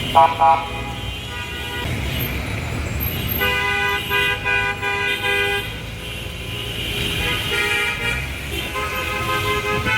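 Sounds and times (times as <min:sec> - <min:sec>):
vehicle horn honking: 0:00.0 - 0:01.9, 0:03.4 - 0:09.9
street traffic rumble: 0:00.0 - 0:09.9.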